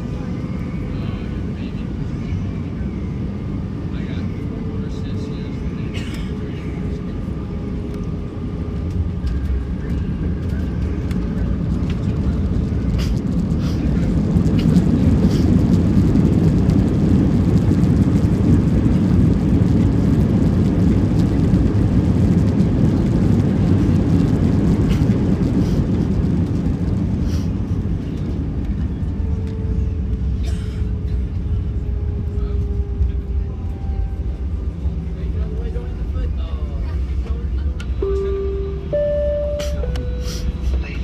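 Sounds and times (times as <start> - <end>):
deep rumble of jet engines: 0.0 - 41.0.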